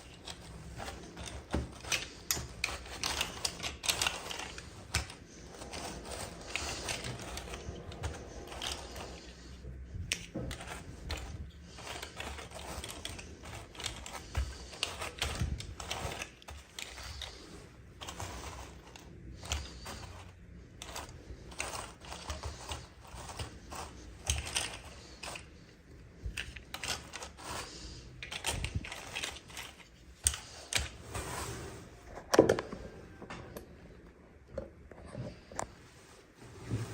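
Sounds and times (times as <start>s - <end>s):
plastic toy pieces rattling: 0.0s - 31.0s.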